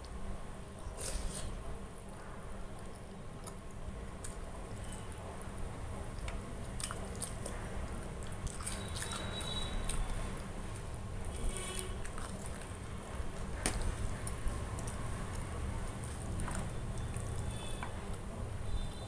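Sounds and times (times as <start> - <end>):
chewing with mouth closed: 2.2 - 17.7
small wet clicks and smacks: 2.7 - 18.3.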